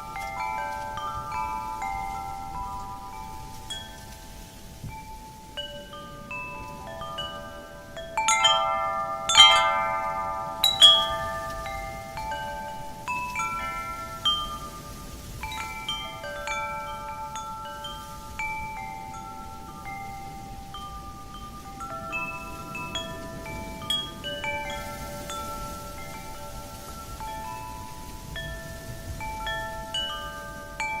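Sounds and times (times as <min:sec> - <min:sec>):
wind chimes ringing: 0:00.0 - 0:31.0.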